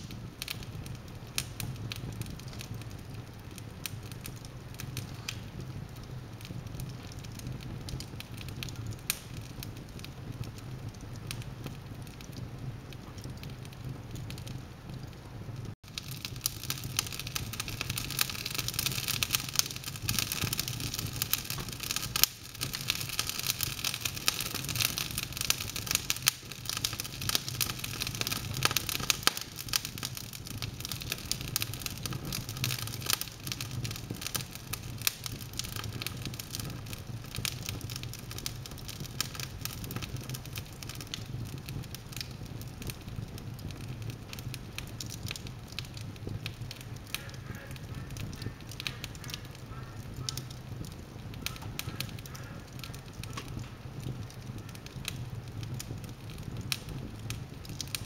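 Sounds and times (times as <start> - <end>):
logs crackling and popping: 0.0 - 58.0.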